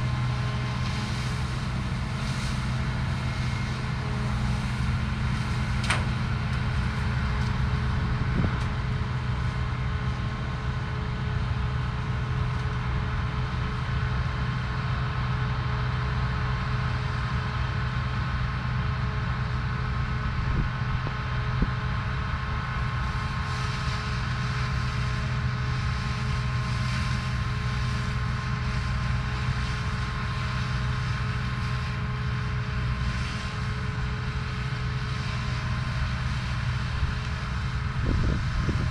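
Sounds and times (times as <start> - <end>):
combine harvester humming: 0.0 - 38.9.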